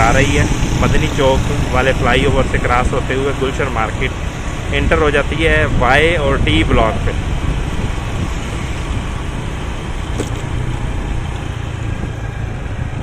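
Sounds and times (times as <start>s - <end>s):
engine hum: 0.0s - 13.0s
tyre and traffic noise: 0.0s - 13.0s.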